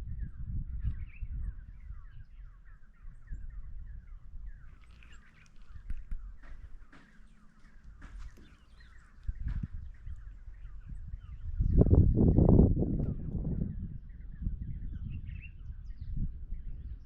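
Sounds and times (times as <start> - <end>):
birds chirping and singing: 0.0 - 17.0.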